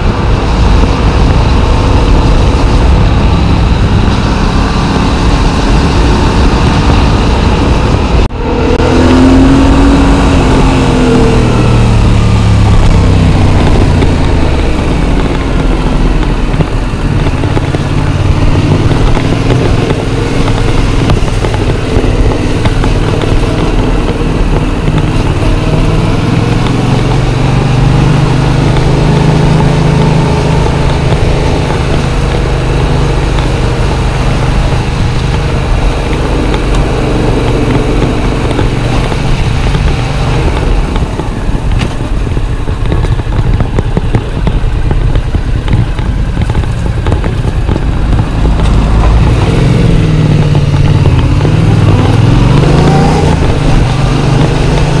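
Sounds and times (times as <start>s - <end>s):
motorcycle engine: 0.0s - 55.0s
wind rush on microphone: 0.0s - 55.0s.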